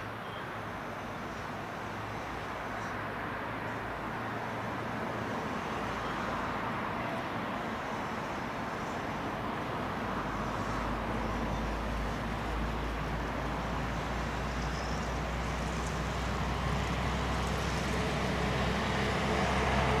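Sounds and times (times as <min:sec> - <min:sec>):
distant diesel engine drone: 0:00.0 - 0:20.0.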